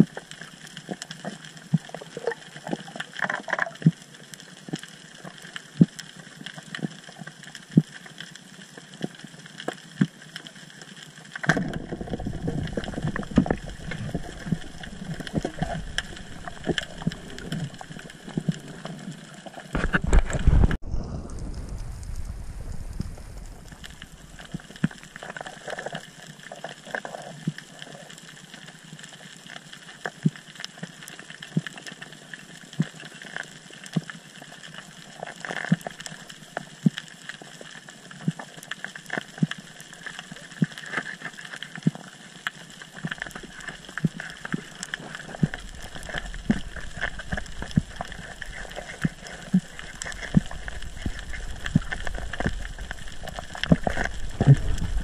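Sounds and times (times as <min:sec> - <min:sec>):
muffled rush of water: 0:00.0 - 0:55.0.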